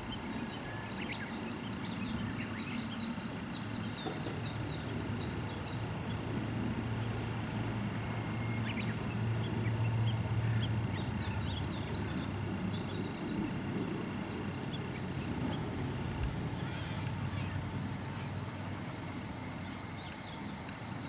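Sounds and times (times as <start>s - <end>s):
faint high whine: 0.0s - 21.0s.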